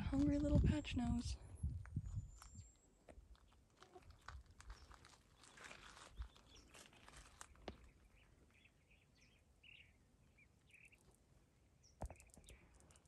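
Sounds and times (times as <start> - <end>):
soft bird chirps: 0.8 - 13.0.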